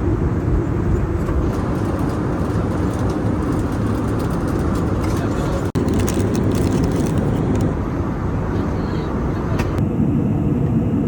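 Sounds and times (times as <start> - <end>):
airliner cabin rushing noise: 0.0 - 9.8.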